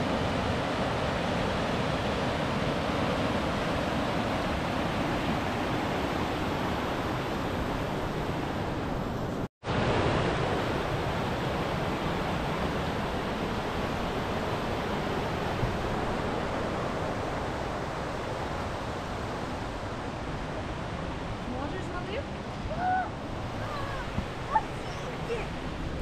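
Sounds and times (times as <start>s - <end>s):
fast-flowing water rushing: 0.0s - 26.0s.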